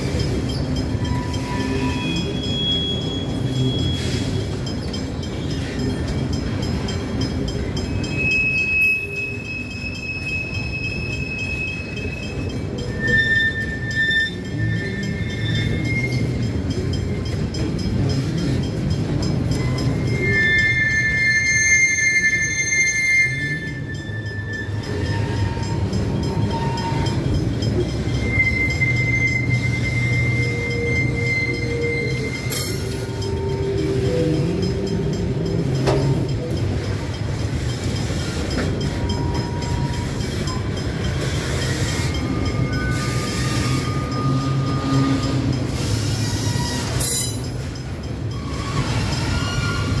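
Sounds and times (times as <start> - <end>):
high wagon squeal: 0.0 - 6.9, 7.8 - 17.2, 19.4 - 34.6, 36.9 - 50.0
wheels rumbling on rail: 0.0 - 50.0.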